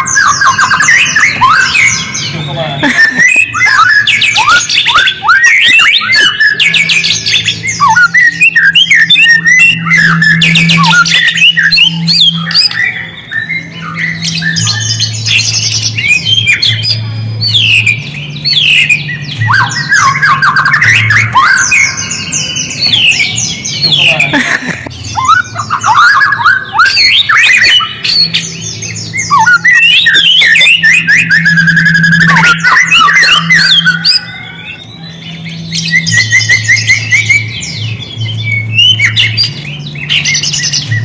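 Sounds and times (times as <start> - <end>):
recorded songbird calls: 0.0 - 41.0.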